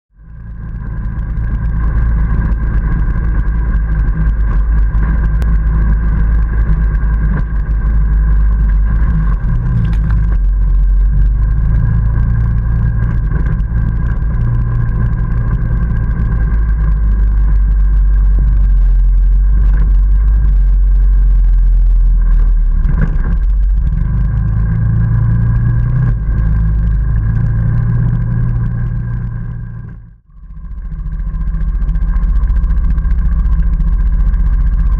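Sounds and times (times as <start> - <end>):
atv engine running: 0.2 - 34.9.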